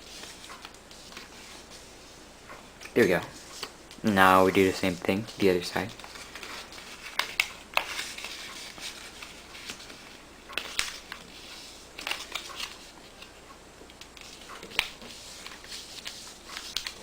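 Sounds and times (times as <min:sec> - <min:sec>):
paper rustling and crackling: 0:00.0 - 0:01.9, 0:04.5 - 0:13.4, 0:14.0 - 0:17.0.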